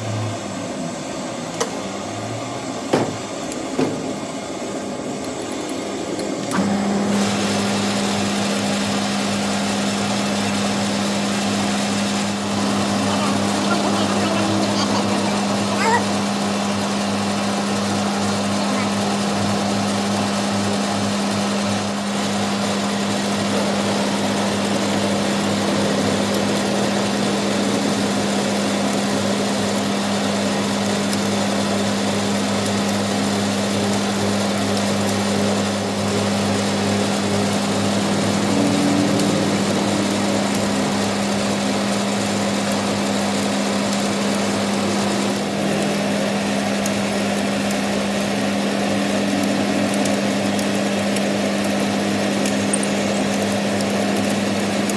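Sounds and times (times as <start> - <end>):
workshop machine running: 0.0 - 54.9.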